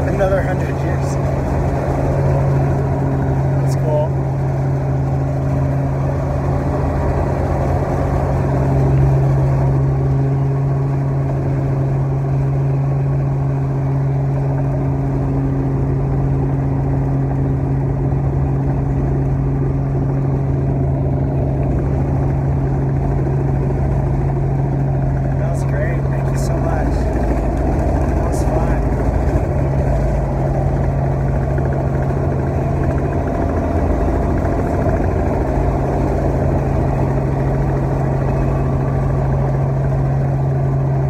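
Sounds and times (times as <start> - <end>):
helicopter engine and rotor drone: 0.0 - 41.0.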